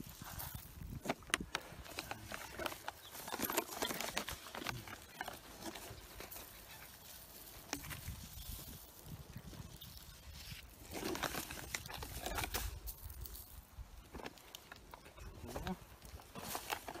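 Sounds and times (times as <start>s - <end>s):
granules pattering on seedlings: 0.0s - 17.0s
plastic bag rustling: 0.0s - 17.0s.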